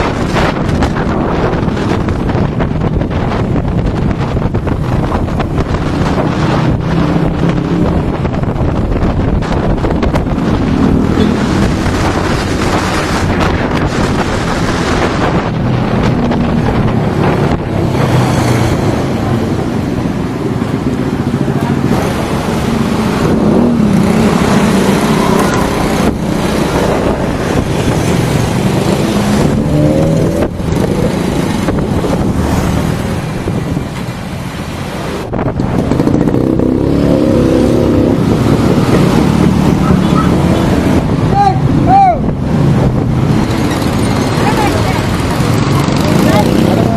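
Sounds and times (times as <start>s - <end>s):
vehicle engine revving: 0.0s - 41.4s
wind buffeting microphone: 0.0s - 46.9s.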